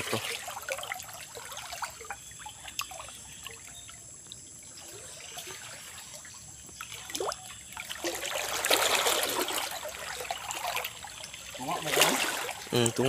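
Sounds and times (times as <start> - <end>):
water rushing and splashing: 0.0 - 3.3, 4.7 - 13.0
small drips and splashes: 0.0 - 13.0
water trickling: 0.0 - 13.0.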